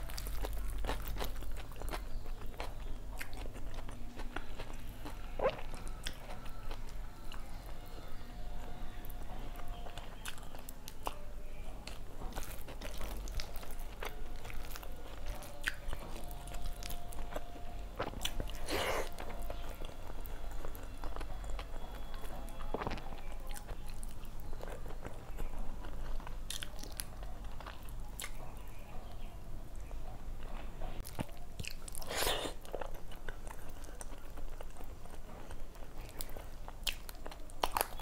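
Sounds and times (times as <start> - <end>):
chewing and mouth sounds: 0.0 - 7.9, 9.1 - 38.0.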